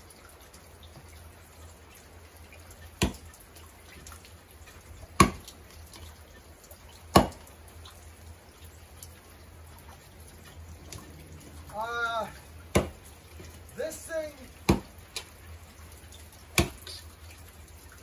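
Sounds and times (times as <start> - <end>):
steady dripping rain: 0.0 - 18.0.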